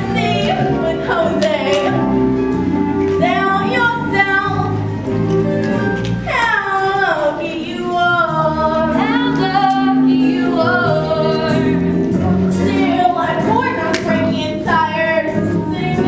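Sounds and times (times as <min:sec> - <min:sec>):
backing music: 0:00.0 - 0:16.0.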